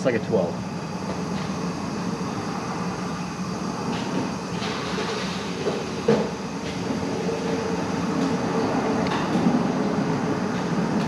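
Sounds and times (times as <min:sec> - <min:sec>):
mechanical rumble and hum: 0:00.0 - 0:11.0.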